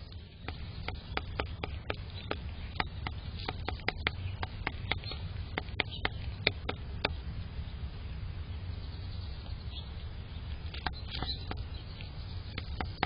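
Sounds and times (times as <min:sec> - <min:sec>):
small birds ticking: 0:00.0 - 0:13.0
steady low rumble: 0:00.0 - 0:13.0.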